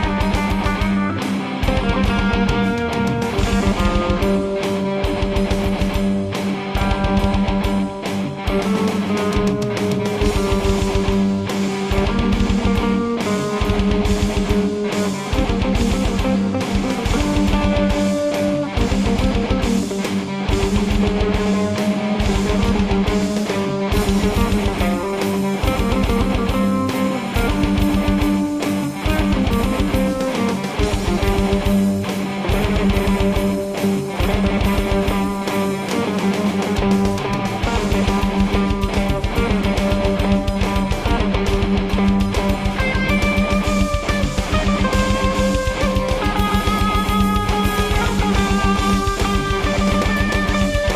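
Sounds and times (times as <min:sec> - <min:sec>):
drum kit beat: 0:00.0 - 0:50.9
guitar playing chords and riffs: 0:00.0 - 0:50.9.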